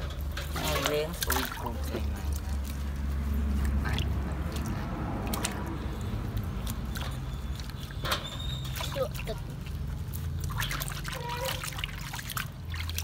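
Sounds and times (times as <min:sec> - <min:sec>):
small water splashes: 0:00.0 - 0:13.0
water sloshing in steel basin: 0:00.0 - 0:13.0.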